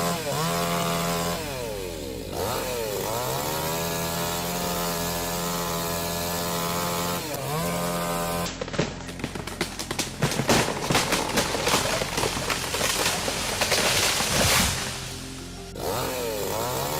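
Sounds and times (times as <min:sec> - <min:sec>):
chainsaw revving: 0:00.0 - 0:16.9.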